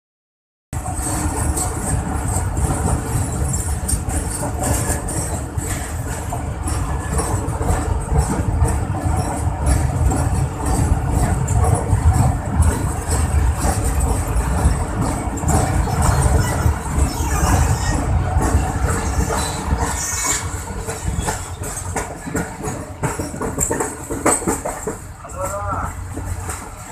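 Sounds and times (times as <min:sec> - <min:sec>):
train rumbling over bridge: 0:00.7 - 0:26.9.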